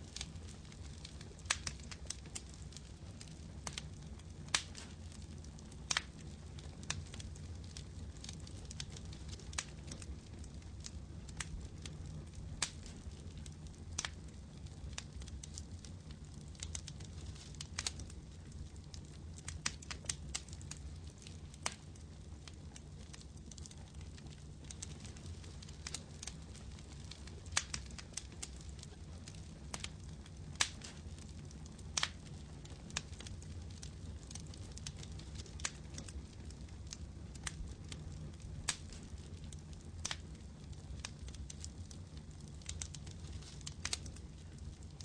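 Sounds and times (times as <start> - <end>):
fire crackling and popping: 0.0 - 45.0.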